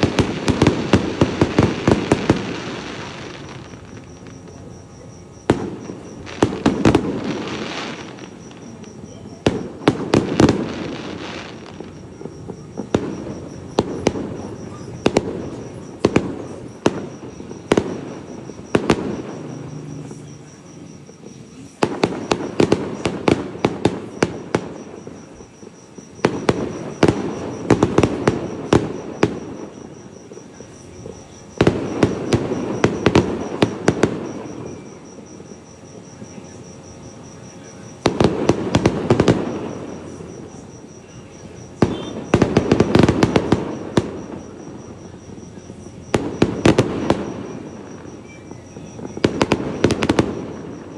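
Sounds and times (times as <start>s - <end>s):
fireworks bangs and crackles: 0.0s - 50.9s
insects chirping: 0.0s - 50.9s.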